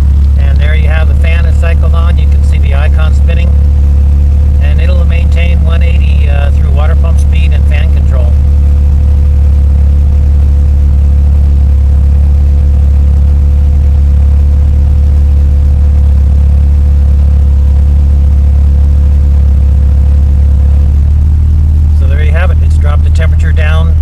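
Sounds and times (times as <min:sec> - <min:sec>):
car engine droning: 0:00.0 - 0:24.0
faint steady whine: 0:00.0 - 0:24.0.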